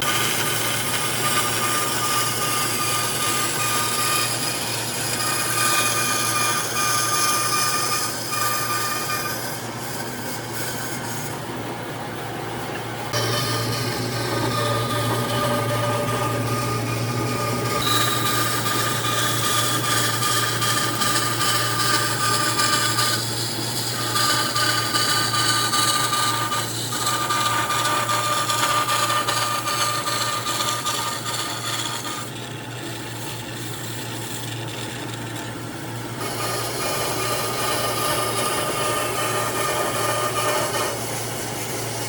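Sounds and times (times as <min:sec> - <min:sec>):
power tool whining on wood: 0:00.0 - 0:11.6, 0:13.1 - 0:42.0.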